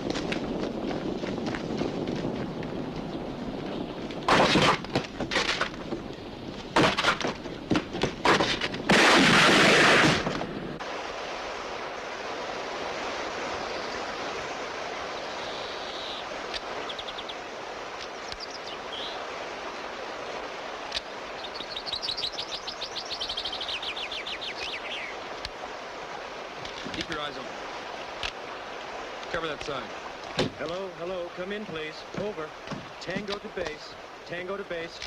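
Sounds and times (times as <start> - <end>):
outdoor background: 0.0 - 35.0.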